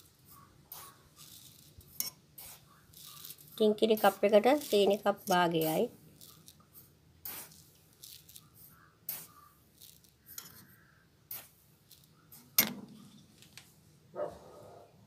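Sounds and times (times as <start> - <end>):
sugar rustling into mug: 0.3 - 12.6.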